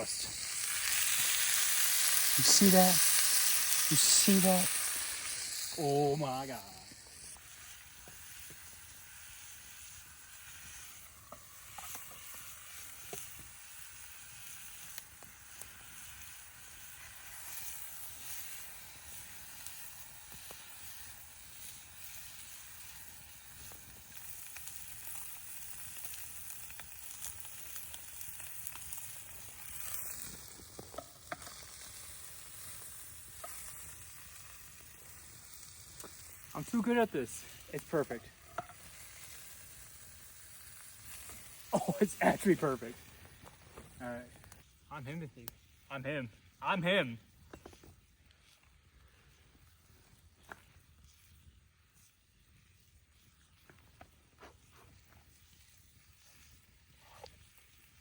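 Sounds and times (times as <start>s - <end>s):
meat sizzling over campfire: 0.0s - 58.0s
small crackles: 0.0s - 58.0s.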